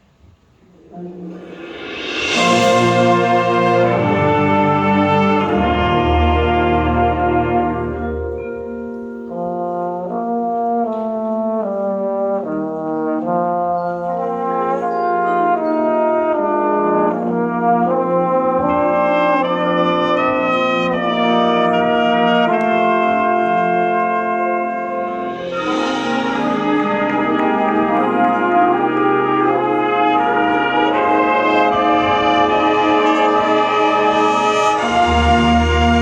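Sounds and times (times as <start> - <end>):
brass band playing slow chords: 0.8 - 36.0.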